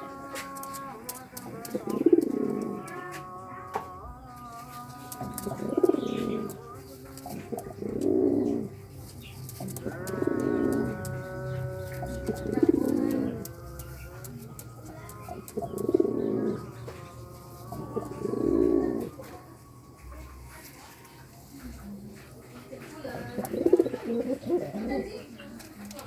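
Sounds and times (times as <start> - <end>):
pigeon cooing: 0.0 - 26.0.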